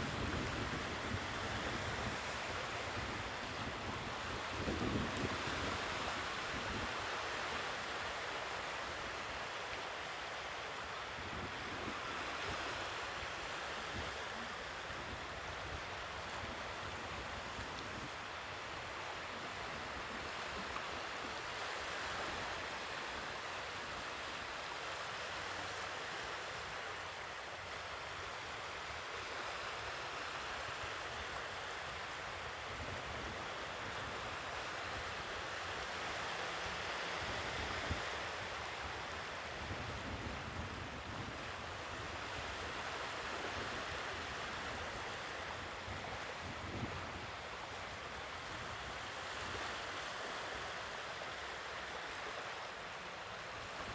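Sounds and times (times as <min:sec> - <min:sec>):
sea waves washing on shore: 0:00.0 - 0:53.9.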